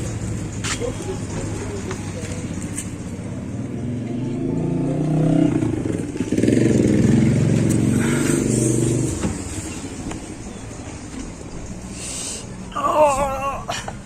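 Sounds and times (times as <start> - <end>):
vehicle engine running: 0.0 - 12.7.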